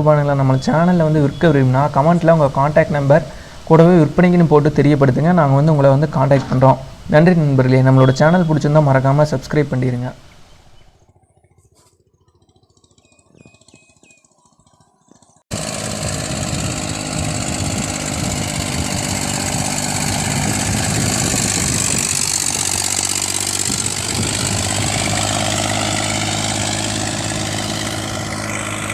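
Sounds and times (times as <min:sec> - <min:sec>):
tractor engine running: 0:00.0 - 0:11.0, 0:12.3 - 0:28.9.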